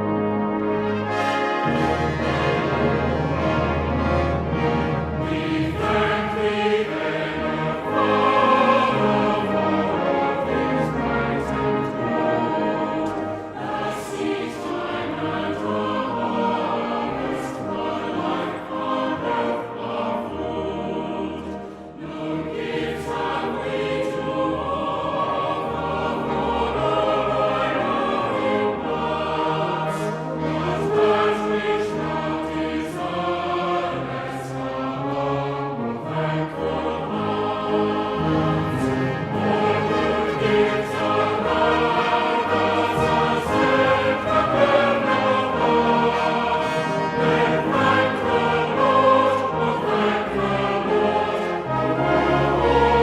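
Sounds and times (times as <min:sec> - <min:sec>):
choir singing: 0:00.0 - 0:53.0
instrumental accompaniment: 0:00.0 - 0:53.0.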